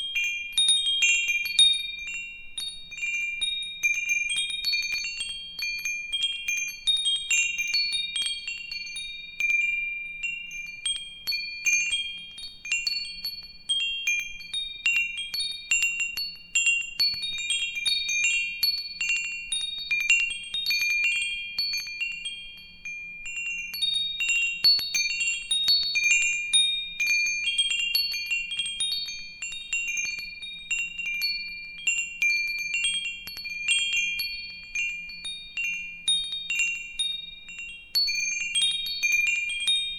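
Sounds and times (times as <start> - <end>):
metal wind chimes ringing: 0.0 - 39.9.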